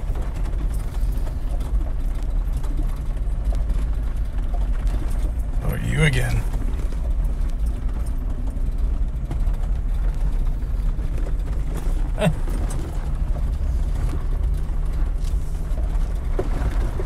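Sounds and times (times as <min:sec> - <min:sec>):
engine and tyres on gravel: 0:00.0 - 0:17.0.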